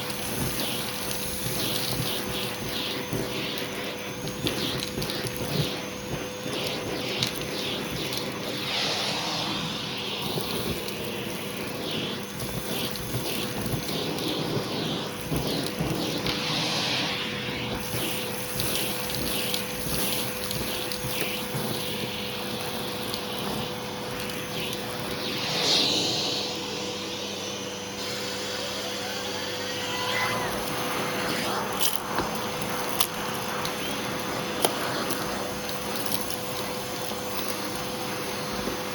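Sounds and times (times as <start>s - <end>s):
vacuum cleaner motor whine: 0.0s - 38.9s
vacuum hose suction hiss on rug: 0.0s - 38.9s.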